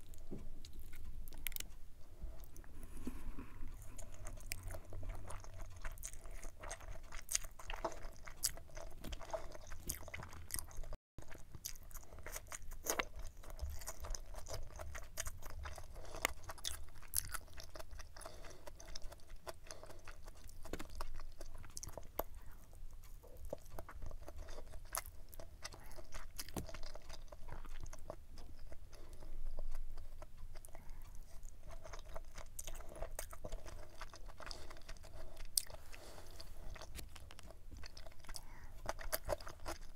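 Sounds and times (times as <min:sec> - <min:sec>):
close chewing with wet crunches: 0:00.0 - 0:39.9.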